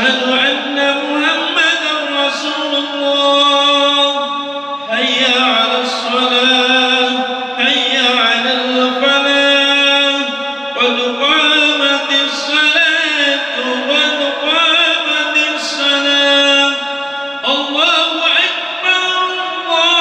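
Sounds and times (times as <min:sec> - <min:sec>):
man chanting through a microphone: 0:00.0 - 0:20.0.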